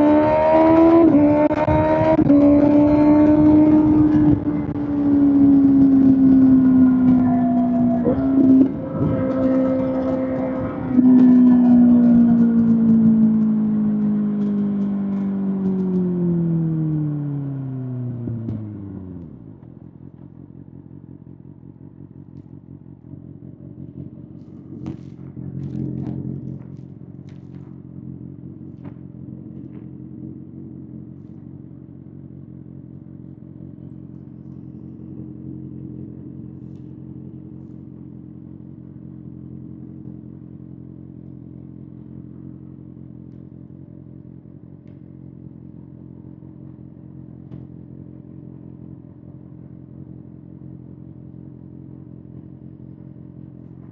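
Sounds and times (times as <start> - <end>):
motorcycle engine idling: 0.0 - 17.5, 18.1 - 53.9.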